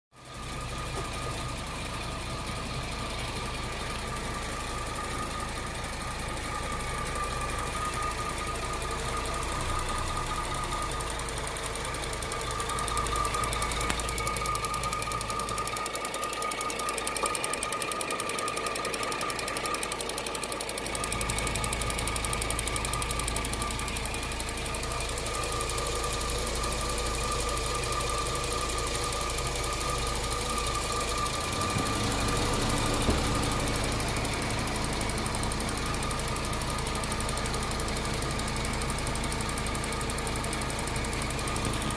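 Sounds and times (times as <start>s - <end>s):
car engine running: 0.2s - 41.9s
fast ticking clatter: 0.2s - 41.9s.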